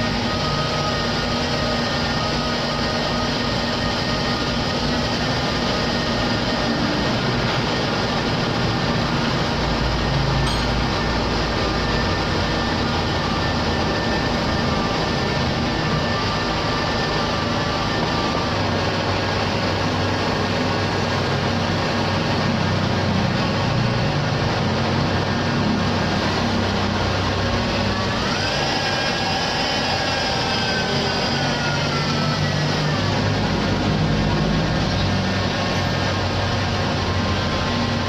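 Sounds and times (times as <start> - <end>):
engine whine: 0.0 - 38.0.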